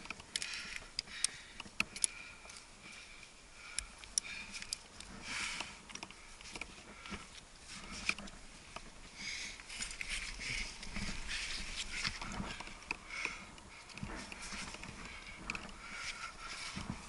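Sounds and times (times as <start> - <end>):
person breathing heavily: 0.2 - 8.4, 9.0 - 17.0.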